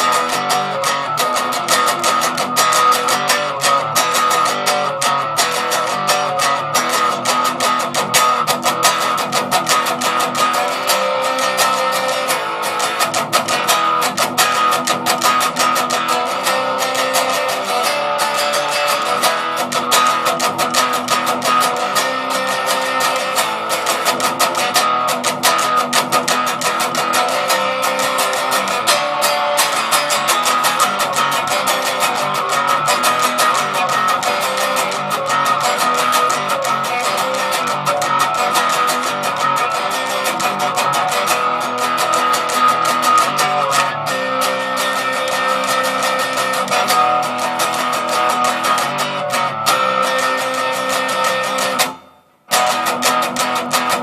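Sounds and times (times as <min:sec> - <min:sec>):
distorted electric guitar riffs: 0:00.0 - 0:54.0.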